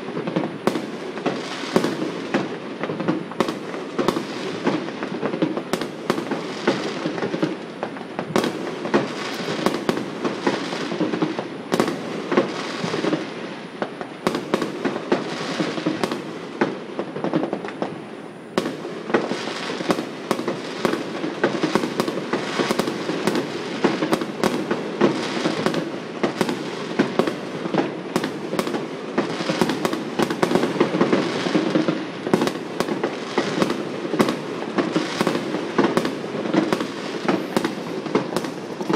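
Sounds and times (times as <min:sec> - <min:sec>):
fireworks crackling: 0:00.0 - 0:38.9
fireworks sharp bangs: 0:00.0 - 0:38.9.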